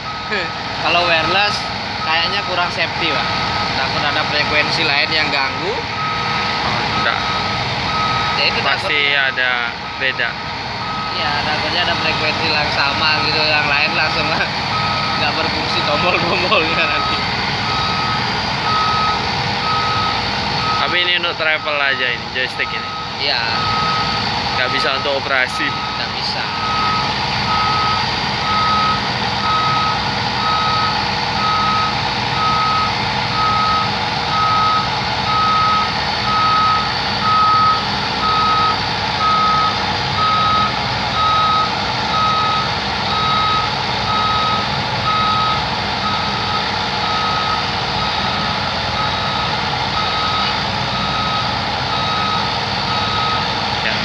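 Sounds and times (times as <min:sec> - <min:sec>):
back-up alarm beeping: 0:00.0 - 0:54.0
diesel engine running: 0:00.0 - 0:54.0.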